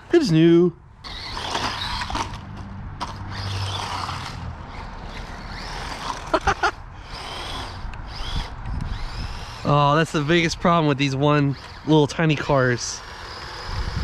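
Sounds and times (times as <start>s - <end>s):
tyres on ground: 0.0s - 14.0s
toy truck motor whining: 1.0s - 14.0s.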